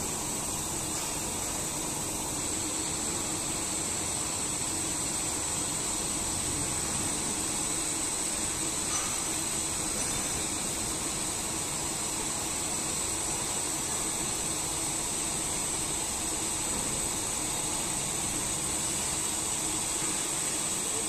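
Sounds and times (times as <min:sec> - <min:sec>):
high hiss: 0:00.0 - 0:21.0
milling machine running: 0:00.0 - 0:21.0.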